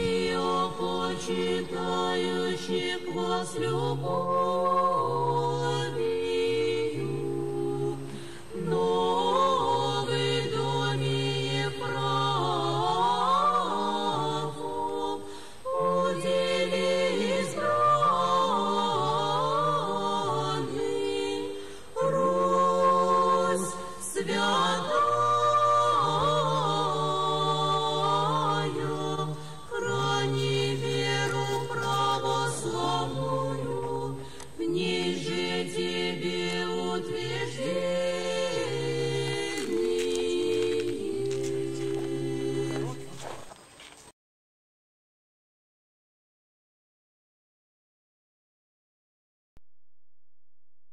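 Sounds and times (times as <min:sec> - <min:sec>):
choir chanting unaccompanied: 0:00.0 - 0:43.4.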